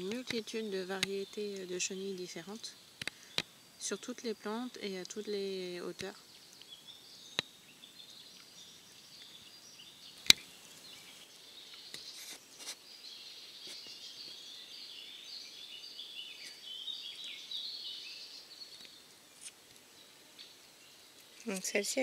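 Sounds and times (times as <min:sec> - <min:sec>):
birds warbling: 0:00.0 - 0:22.0.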